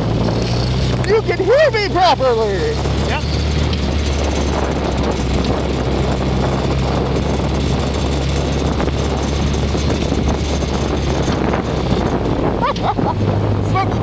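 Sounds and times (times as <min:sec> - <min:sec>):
buggy engine running: 0:00.0 - 0:14.0
wind rushing: 0:00.0 - 0:14.0.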